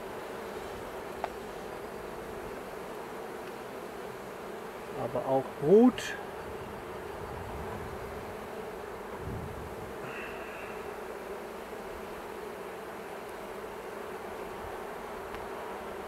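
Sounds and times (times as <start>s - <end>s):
bees humming: 0.0s - 16.0s.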